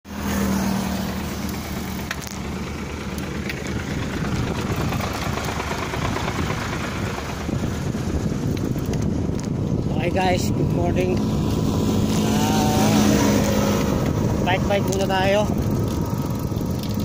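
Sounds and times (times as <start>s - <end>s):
wind buffeting microphone: 1.2s - 17.0s.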